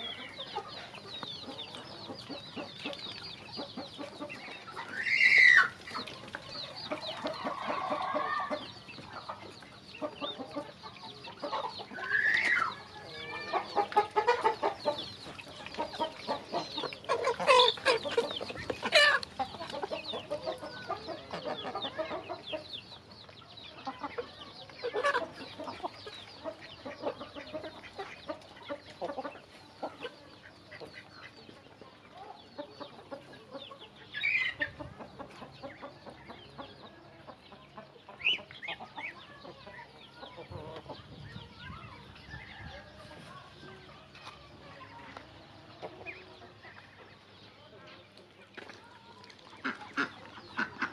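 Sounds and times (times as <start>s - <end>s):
young chickens clucking and calling: 0.0s - 50.9s.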